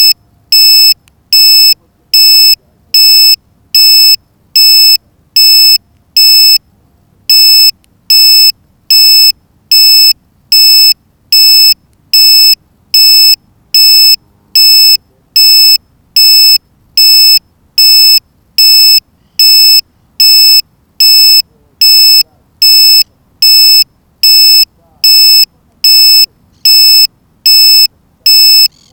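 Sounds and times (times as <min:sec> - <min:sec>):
short high-pitched electronic beeps: 0:00.0 - 0:06.6, 0:07.3 - 0:28.9.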